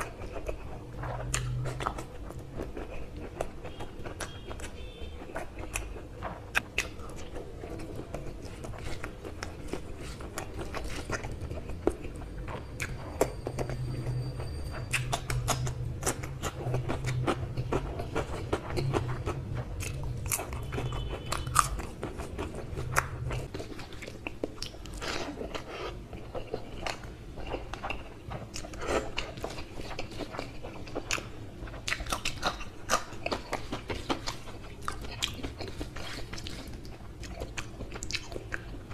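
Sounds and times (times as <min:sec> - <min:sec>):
man chewing food: 0:00.0 - 0:38.9.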